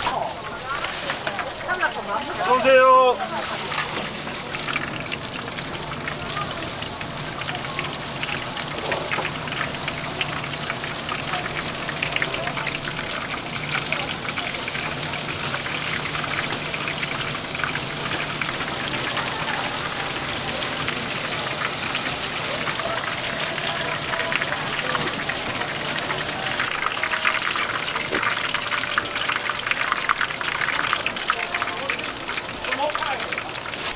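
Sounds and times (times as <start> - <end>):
oil sizzling in deep fryer: 0.0 - 33.9.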